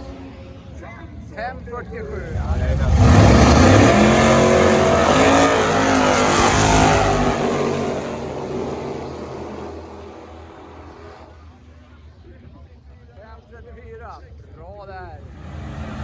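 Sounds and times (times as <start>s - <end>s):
drag race car accelerating: 0.0s - 12.5s, 15.1s - 16.0s.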